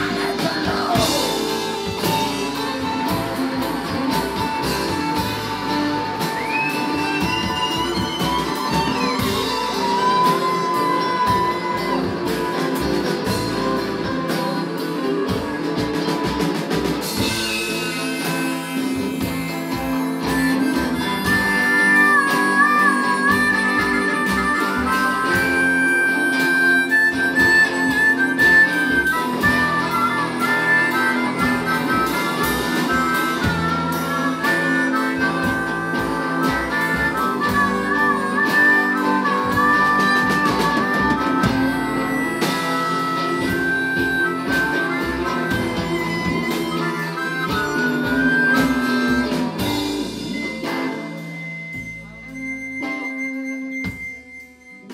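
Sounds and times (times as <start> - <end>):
blues harmonica: 0.0 - 54.9
electric guitar: 0.0 - 54.9
upright bass: 0.0 - 54.9.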